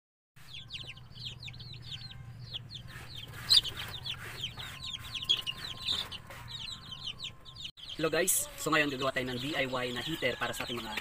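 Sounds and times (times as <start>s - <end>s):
chicks peeping: 0.4s - 11.0s.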